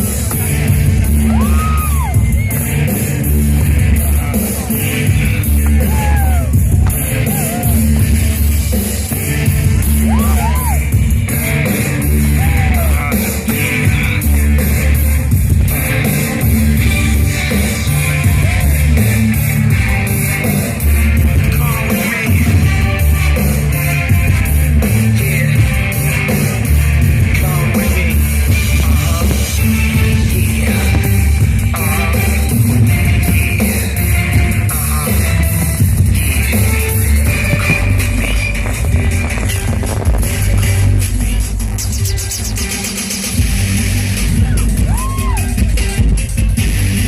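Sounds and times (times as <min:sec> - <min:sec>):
rock music over loudspeakers: 0:00.0 - 0:47.0.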